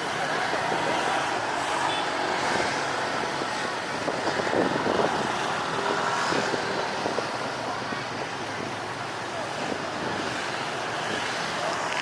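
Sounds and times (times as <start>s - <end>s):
murmur of voices: 0.0s - 12.0s
vehicle noise: 0.0s - 12.0s.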